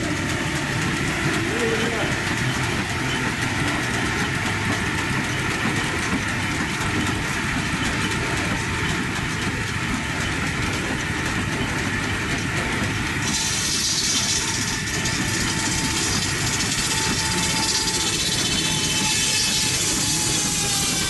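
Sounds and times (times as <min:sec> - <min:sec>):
steam sawmill machinery clatter: 0:00.0 - 0:21.0.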